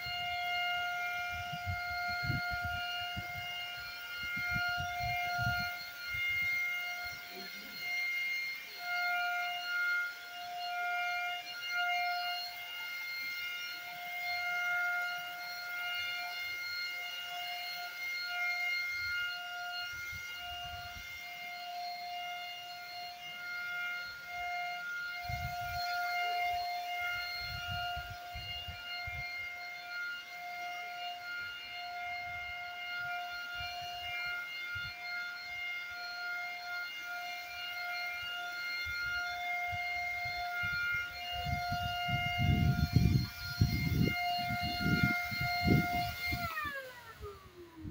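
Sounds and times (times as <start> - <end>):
paint spray gun whine: 0.0 - 47.9.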